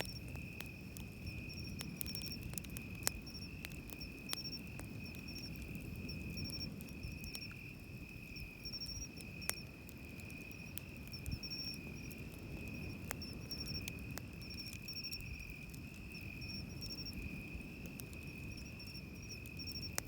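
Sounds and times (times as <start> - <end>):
campfire crackles: 0.0 - 20.0
insect chirps: 0.0 - 20.0
night insects trilling: 0.0 - 20.0.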